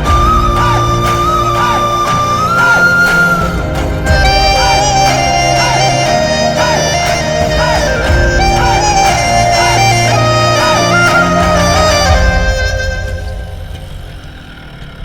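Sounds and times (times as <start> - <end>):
steady bass line: 0.0 - 13.9
reedy wind-instrument melody: 0.0 - 14.6.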